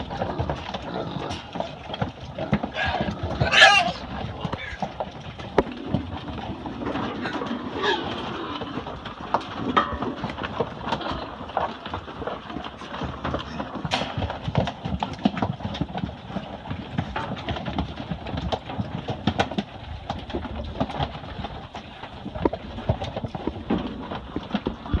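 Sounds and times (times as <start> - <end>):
hogs crunching and chewing: 0.0 - 25.0.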